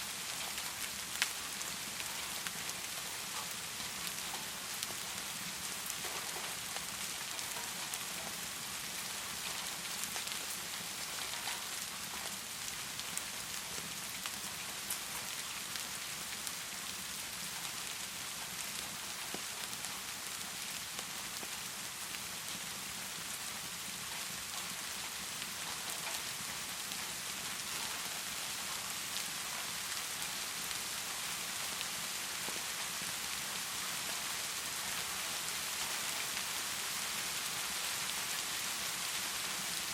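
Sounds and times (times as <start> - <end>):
sharp rain ticks: 0.0 - 39.9.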